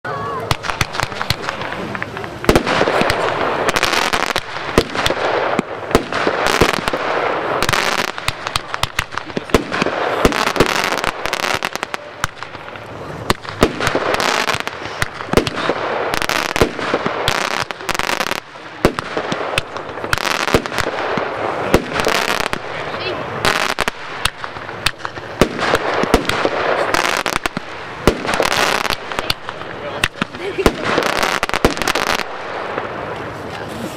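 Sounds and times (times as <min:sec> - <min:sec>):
fireworks crackle: 0:00.1 - 0:33.9
fireworks shots and bursts: 0:00.1 - 0:33.9.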